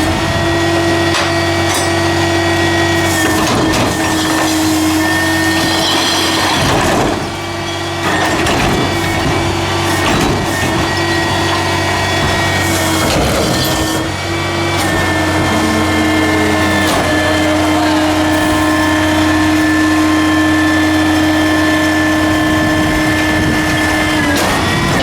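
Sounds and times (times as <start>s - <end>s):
diesel engine running: 0.0s - 25.0s
hydraulic pump whining: 0.0s - 25.0s.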